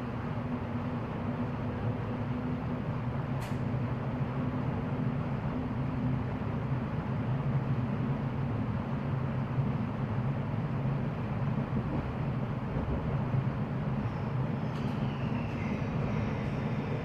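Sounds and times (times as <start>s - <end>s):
constant hum: 0.0s - 17.0s
train carriage low rumble: 0.0s - 17.0s.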